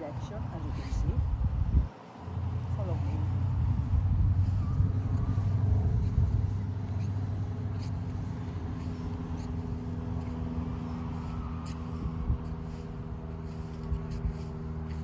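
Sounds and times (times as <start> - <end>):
distant engine hum: 0.0 - 15.0
faint footsteps in grass: 0.0 - 15.0
wind rumbling on microphone: 0.0 - 15.0.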